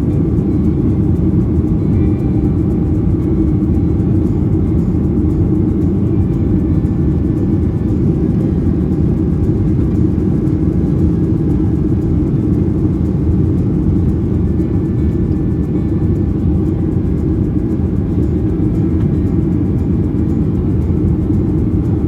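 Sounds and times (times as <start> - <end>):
jet engines and airflow rumble: 0.0 - 22.0.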